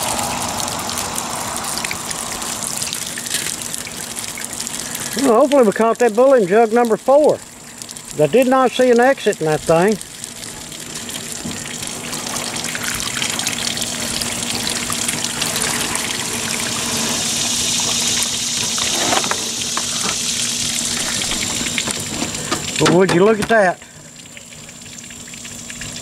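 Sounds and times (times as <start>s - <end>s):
water pouring from jug: 0.0s - 26.0s
water splashing onto wood: 0.0s - 26.0s.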